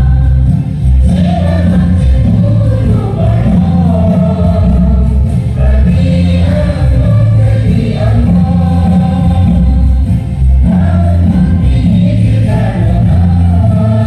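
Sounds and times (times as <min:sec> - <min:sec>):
music with strong bass notes: 0:00.0 - 0:14.0
voices singing in chorus: 0:00.0 - 0:14.0.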